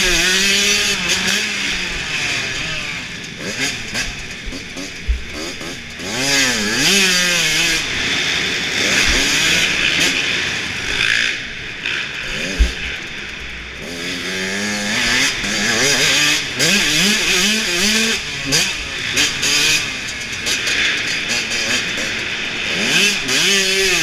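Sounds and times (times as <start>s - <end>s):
dirt bike engine revving: 0.0s - 24.0s
wind and track noise: 0.0s - 24.0s.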